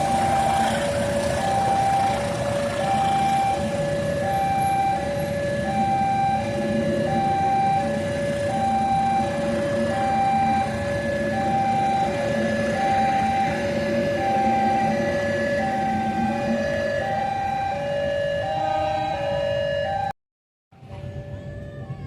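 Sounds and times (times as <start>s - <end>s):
electronic two-tone warning alarm: 0.0s - 20.2s.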